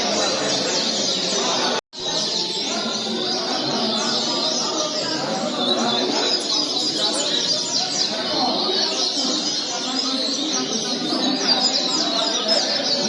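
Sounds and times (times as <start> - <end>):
birds chirping in chorus: 0.0 - 13.0.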